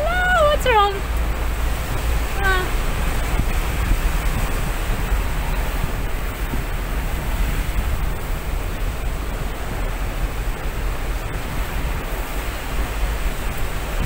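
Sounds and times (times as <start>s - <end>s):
wind and rain through car window: 0.0s - 14.0s
wind buffeting microphone: 0.0s - 14.0s.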